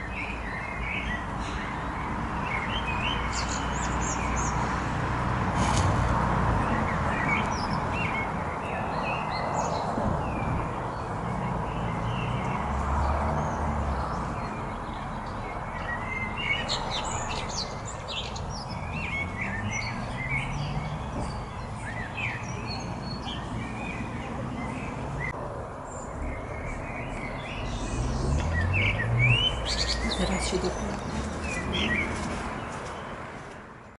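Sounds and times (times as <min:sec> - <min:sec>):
songbirds chirping and twittering: 0:00.0 - 0:34.0.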